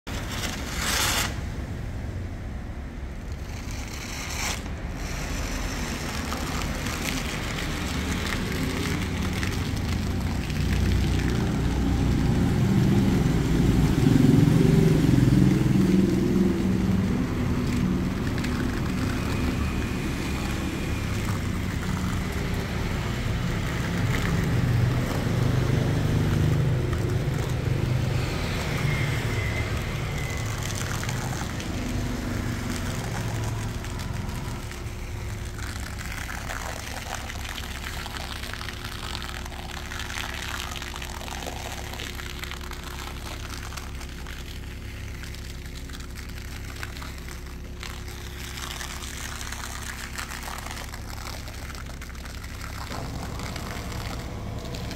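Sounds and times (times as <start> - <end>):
cars and motorbikes passing: 0.1 - 54.9.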